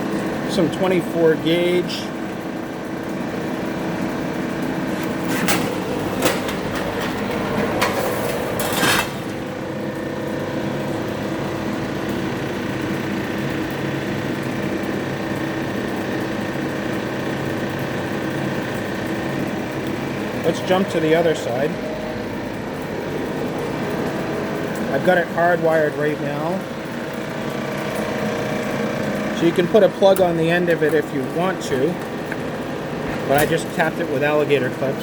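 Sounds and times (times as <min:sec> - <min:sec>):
roll former machine running: 0:00.0 - 0:35.0.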